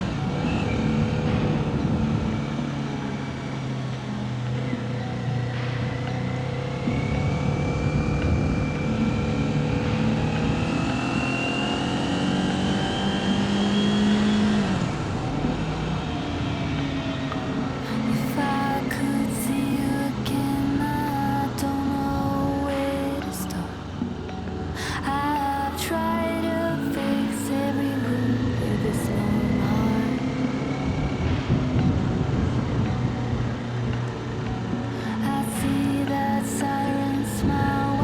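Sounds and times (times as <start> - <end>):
road and wind noise: 0.0 - 38.0.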